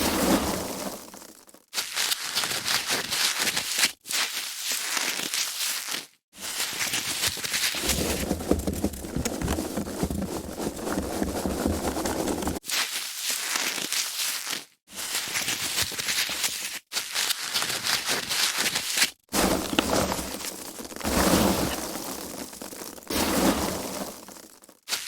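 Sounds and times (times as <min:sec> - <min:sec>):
foam packaging crumpling: 0:01.3 - 0:25.0.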